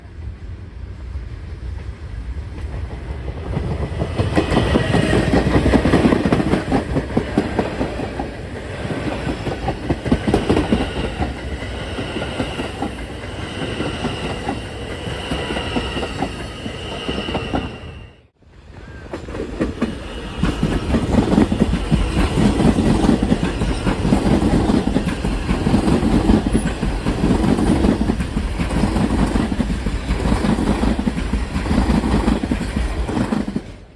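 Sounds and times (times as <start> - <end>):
subway train wheels clacking: 0.0 - 33.9.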